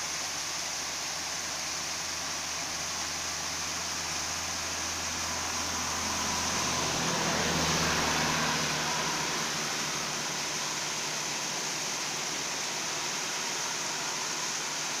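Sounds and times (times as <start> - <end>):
waterfall rushing and splashing: 0.0 - 15.0.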